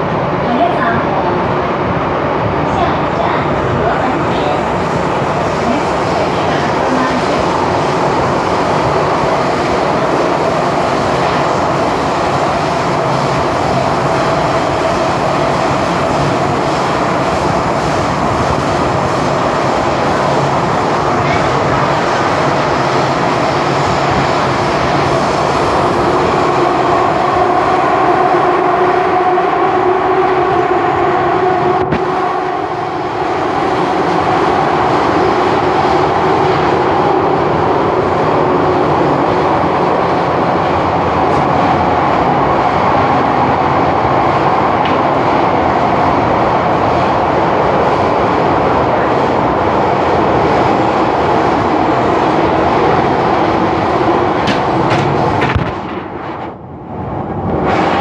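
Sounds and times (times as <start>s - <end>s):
metro train wheels rumbling: 0.0s - 58.0s.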